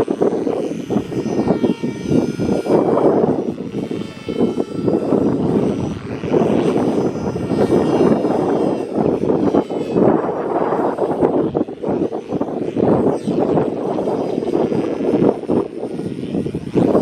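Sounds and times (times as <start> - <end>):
model helicopter motor whine: 0.0 - 17.0
wind rumbling on microphone: 0.0 - 17.0.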